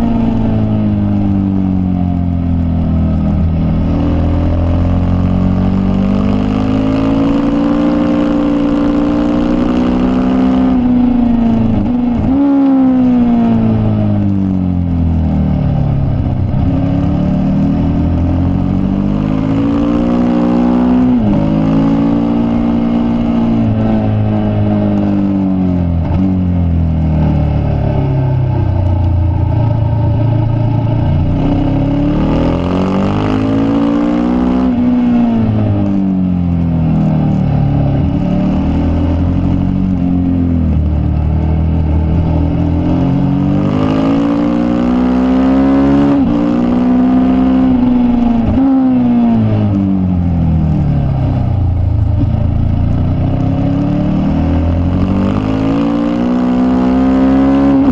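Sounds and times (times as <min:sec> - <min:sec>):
racing motorcycle engine revving: 0:00.0 - 0:57.9.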